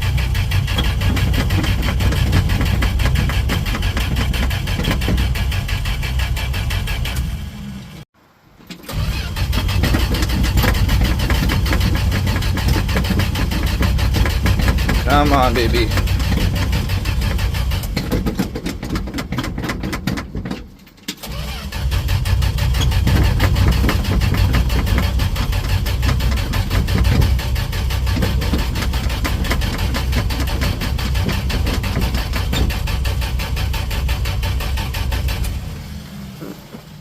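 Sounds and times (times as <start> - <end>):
truck engine cranking on starter: 0.0 - 8.0, 8.6 - 37.0.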